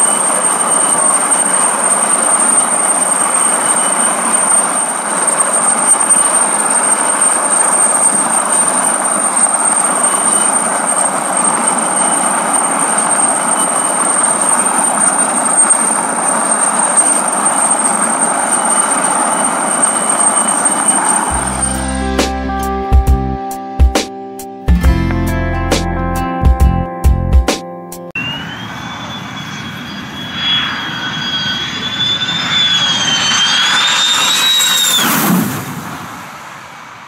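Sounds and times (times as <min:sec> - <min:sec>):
helicopter rotor and engine noise: 0:00.0 - 0:21.9, 0:28.2 - 0:36.2
high-pitched whine: 0:00.0 - 0:26.0, 0:28.0 - 0:36.2.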